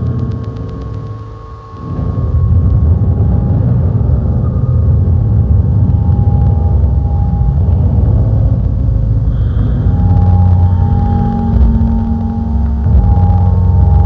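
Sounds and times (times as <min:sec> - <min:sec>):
dark ambient drone music: 0:00.0 - 0:14.0.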